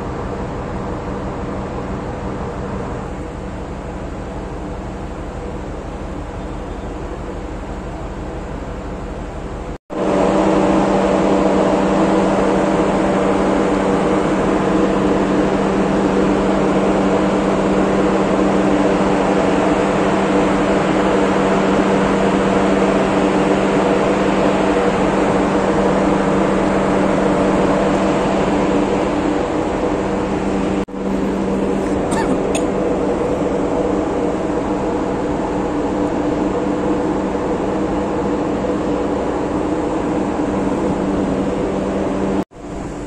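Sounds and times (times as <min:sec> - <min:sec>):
ship machinery hum: 0:00.0 - 0:43.0.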